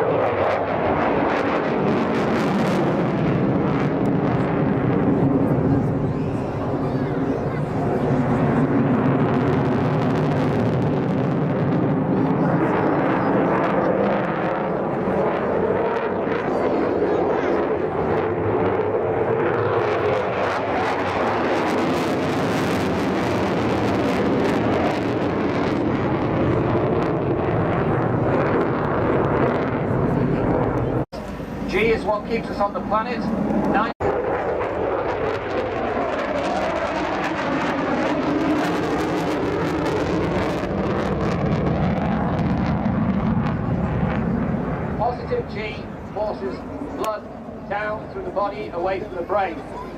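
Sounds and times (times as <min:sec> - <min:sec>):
fighter jet engines roaring: 0:00.0 - 0:49.9.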